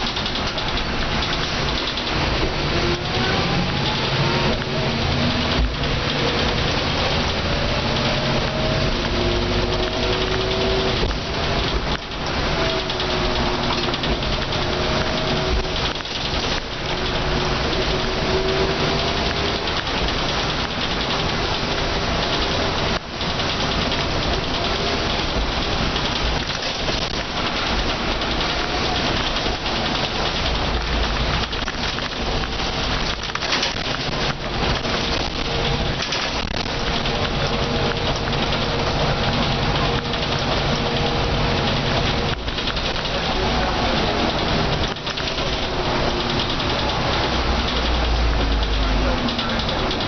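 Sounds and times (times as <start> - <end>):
bus engine whine: 0.0 - 50.0
rain: 0.0 - 50.0
tyres hissing on wet road: 0.0 - 50.0.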